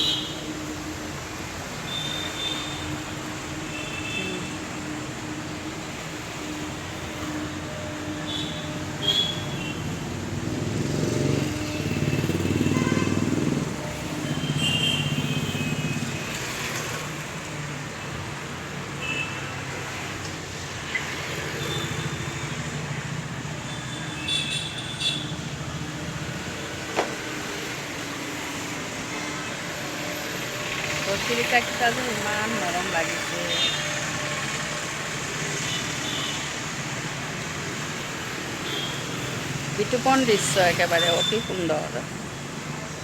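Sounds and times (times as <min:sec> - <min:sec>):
passing road traffic: 0:00.0 - 0:43.0.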